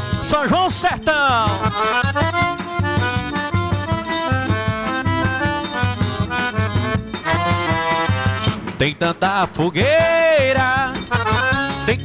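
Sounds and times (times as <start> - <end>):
accordion melody: 0.0 - 9.0, 10.0 - 12.0
bass drum beat: 0.0 - 9.0, 9.6 - 12.0.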